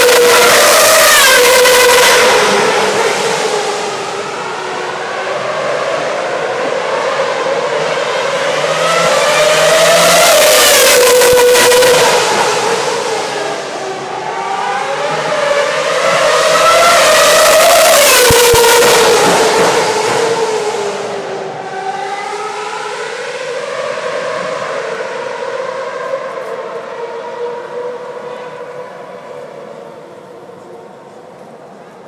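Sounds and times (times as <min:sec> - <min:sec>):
racing car engines passing: 0:00.0 - 0:32.0.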